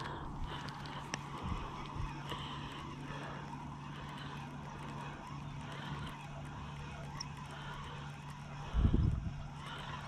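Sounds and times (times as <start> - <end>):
fishing reel ticking: 0.0 - 10.0
steady low hum: 0.0 - 10.0.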